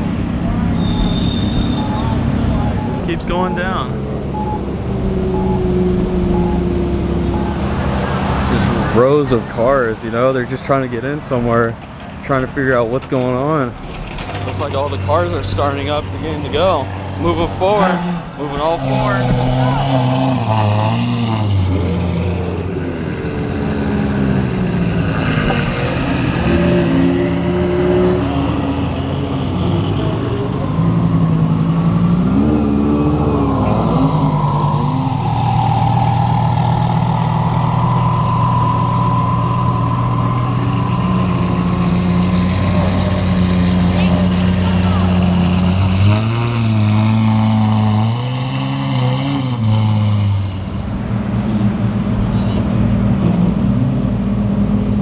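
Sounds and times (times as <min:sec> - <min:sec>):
car engines in slow traffic: 0:00.0 - 0:55.0.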